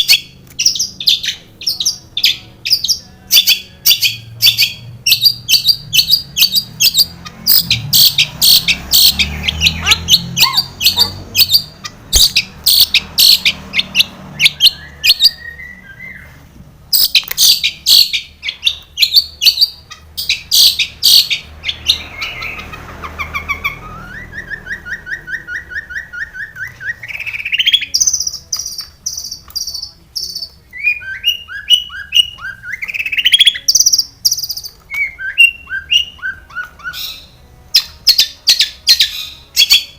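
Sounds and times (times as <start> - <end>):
shrike singing varied song: 0.0 - 39.9.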